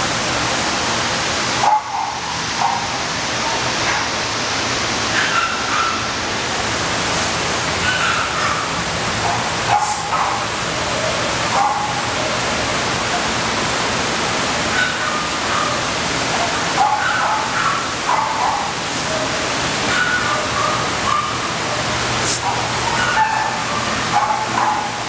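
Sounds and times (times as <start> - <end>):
rushing background noise: 0.0 - 25.0
dogs barking and yelping: 1.6 - 4.2, 5.1 - 6.2, 7.7 - 13.8, 14.4 - 25.0.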